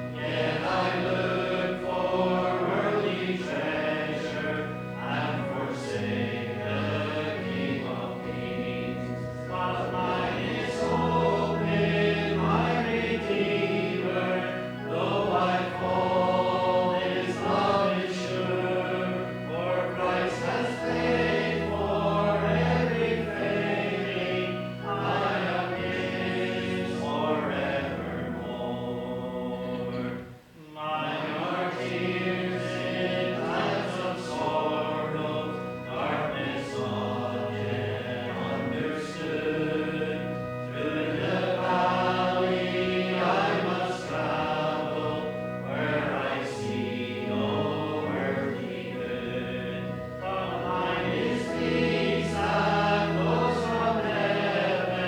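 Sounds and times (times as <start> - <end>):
congregation singing worship song: 0.0 - 55.0.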